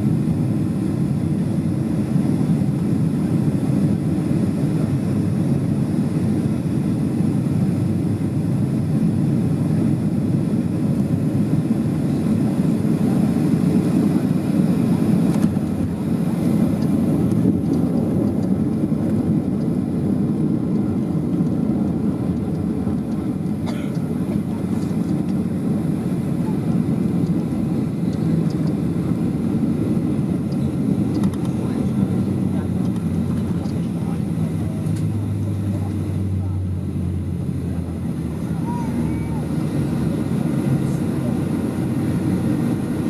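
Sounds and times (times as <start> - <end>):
jet engines rumbling: 0.0 - 43.0.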